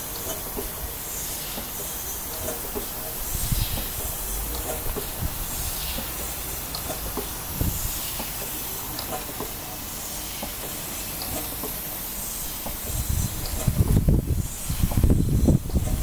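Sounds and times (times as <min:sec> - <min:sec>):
steady hiss of escaping air: 0:00.0 - 0:16.0.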